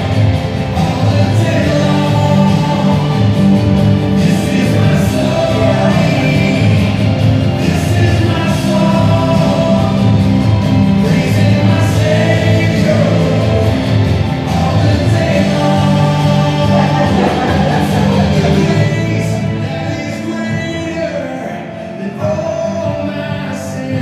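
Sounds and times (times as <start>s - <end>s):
choir singing gospel song: 0.0s - 24.0s.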